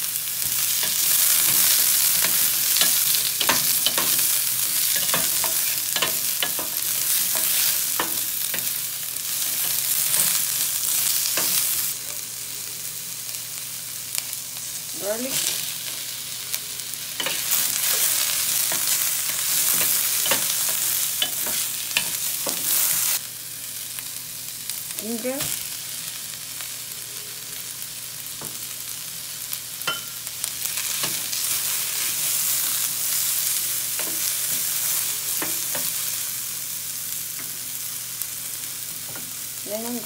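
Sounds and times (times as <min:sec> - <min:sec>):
onion and garlic sizzling in oil: 0:00.0 - 0:40.0.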